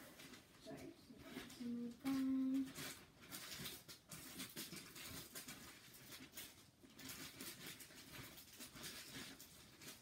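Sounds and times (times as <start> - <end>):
rustling and handling noise: 0.0 - 10.0.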